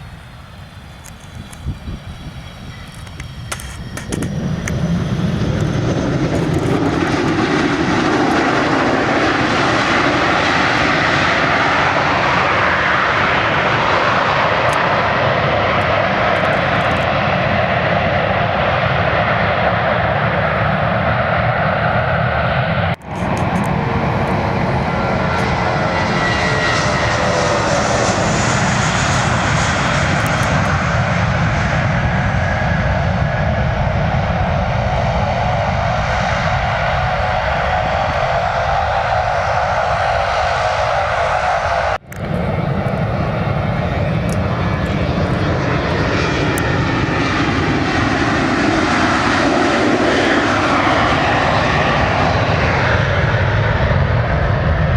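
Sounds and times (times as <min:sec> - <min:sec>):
jet engines running loud: 0:00.0 - 0:54.9.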